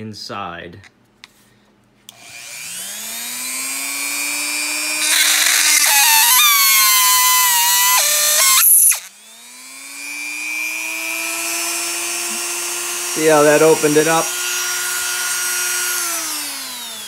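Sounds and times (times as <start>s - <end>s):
rotary tool whining: 2.1s - 17.0s.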